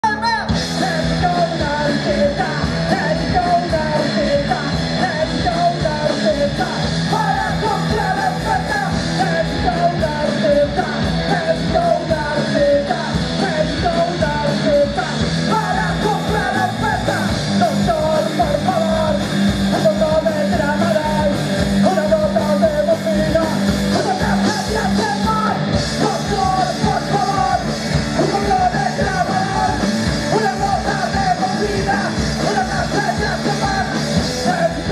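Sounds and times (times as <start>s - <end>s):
bass guitar: 0.0s - 34.9s
drum kit beat: 0.0s - 34.9s
electric guitar: 0.0s - 34.9s
person singing: 0.0s - 34.9s.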